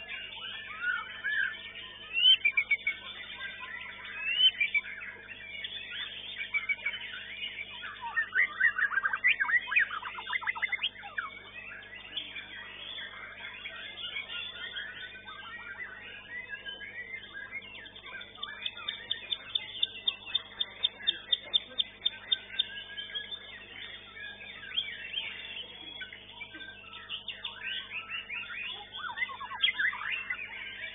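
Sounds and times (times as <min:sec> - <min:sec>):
bird sharp repeated notes: 0:00.0 - 0:30.9
songbirds whistling and chirping: 0:00.0 - 0:30.9.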